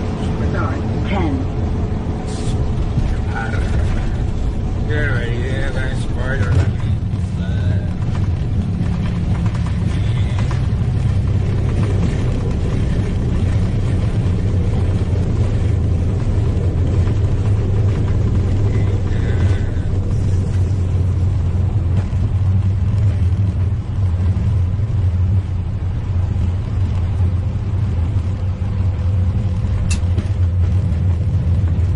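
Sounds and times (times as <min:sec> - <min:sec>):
jet engines and wheels rumbling: 0:00.0 - 0:31.9.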